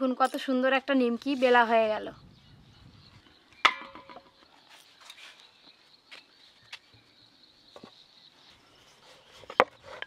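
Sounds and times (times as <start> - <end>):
faint insect chirring: 0.0 - 10.0.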